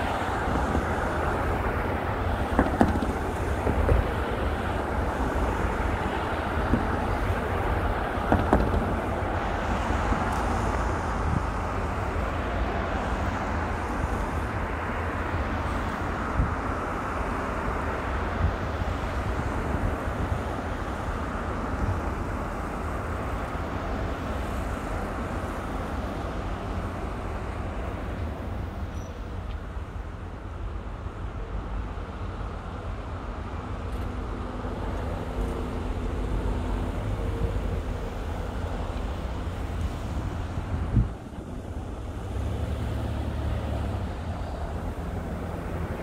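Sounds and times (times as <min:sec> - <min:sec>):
vehicles driving past: 0:00.0 - 0:46.0.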